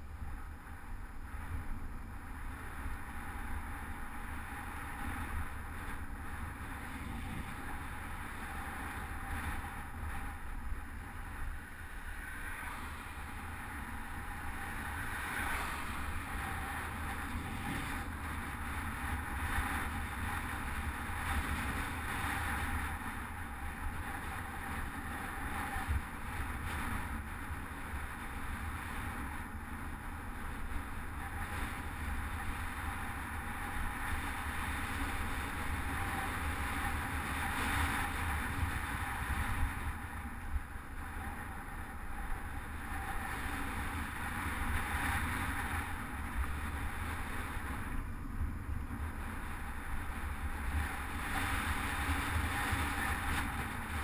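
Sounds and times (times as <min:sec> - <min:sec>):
bicycle tyres rumbling on road: 0:00.0 - 0:54.0
wind on microphone: 0:00.0 - 0:54.0.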